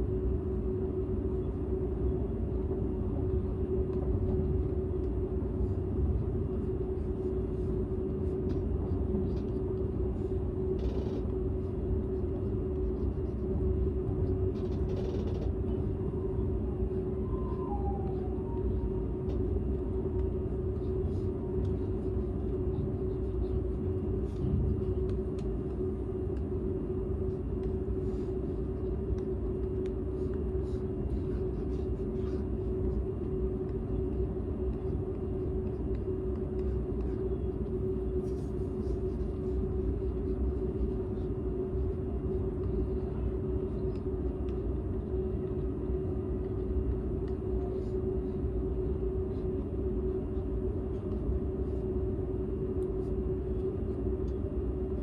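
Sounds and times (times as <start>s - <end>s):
train cabin rumble and hum: 0.0s - 55.0s.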